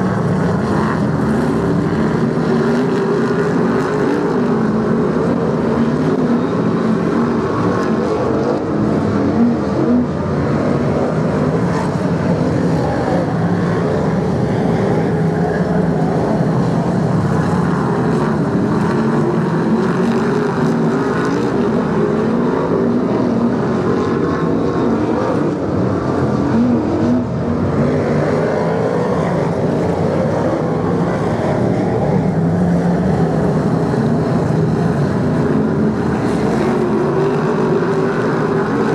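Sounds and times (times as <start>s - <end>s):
stock car engines racing: 0.0s - 38.9s.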